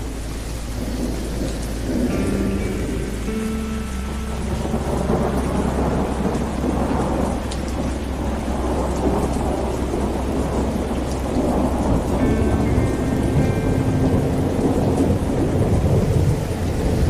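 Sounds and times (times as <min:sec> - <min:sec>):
steady rain falling: 0:00.0 - 0:17.0
thunder rumbling: 0:00.0 - 0:17.0.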